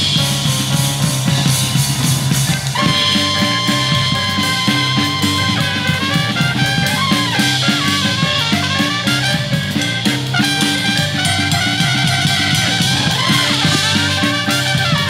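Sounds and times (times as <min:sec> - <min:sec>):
drum kit with cymbals: 0:00.0 - 0:15.0
low bass line: 0:00.0 - 0:15.0
trumpet melody: 0:02.7 - 0:15.0.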